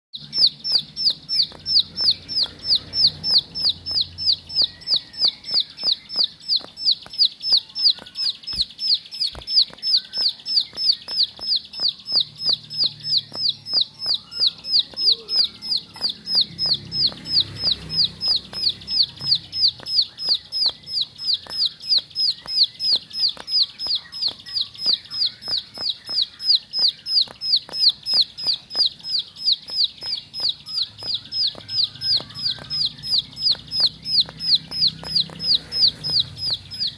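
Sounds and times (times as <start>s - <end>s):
bird rapid repeated call: 0.2s - 36.9s.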